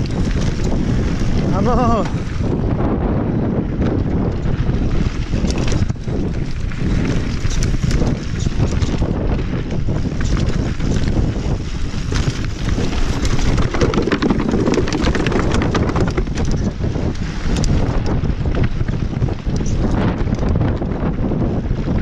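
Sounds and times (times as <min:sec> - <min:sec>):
bike rattling over stones: 0:00.0 - 0:22.0
wind rushing over microphone: 0:00.0 - 0:22.0.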